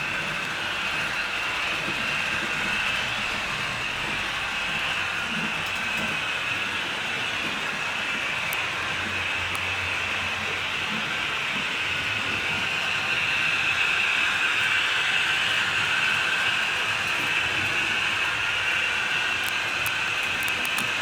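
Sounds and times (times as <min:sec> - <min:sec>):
model train whirring on rails: 0:00.0 - 0:21.0.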